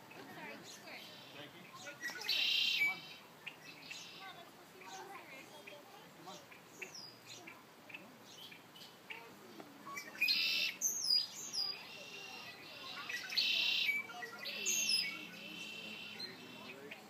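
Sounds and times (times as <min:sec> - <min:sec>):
faint bird chirps: 0:00.0 - 0:17.0
songbird trilled songs: 0:00.1 - 0:17.0.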